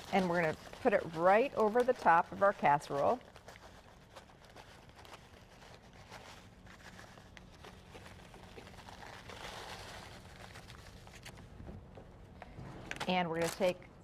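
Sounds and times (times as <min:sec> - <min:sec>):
crumbs rustling and pattering: 0:00.0 - 0:13.8
bag crinkling: 0:00.0 - 0:13.9.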